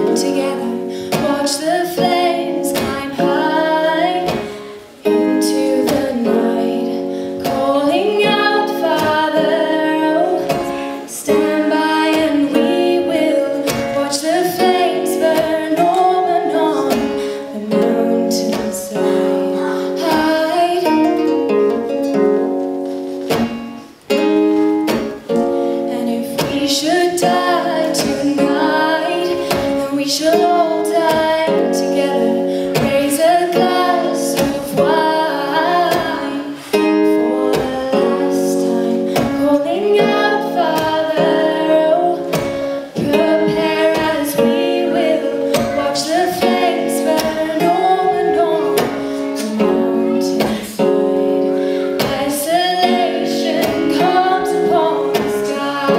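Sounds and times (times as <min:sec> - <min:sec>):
woman singing a ballad: 0:00.0 - 0:23.3, 0:24.1 - 0:55.9
strummed acoustic guitar: 0:00.0 - 0:55.9.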